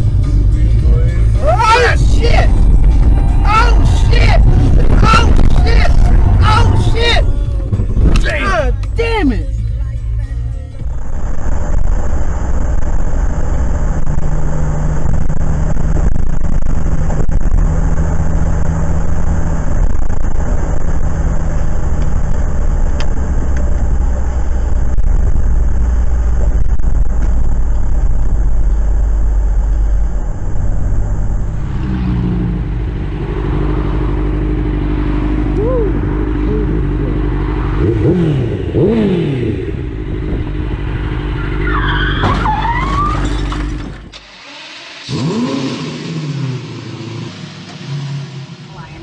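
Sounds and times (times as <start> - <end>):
motorcycle engine: 0.0 - 9.6, 10.2 - 49.0
low engine hum: 0.0 - 49.0
tyre and road noise: 0.0 - 49.0.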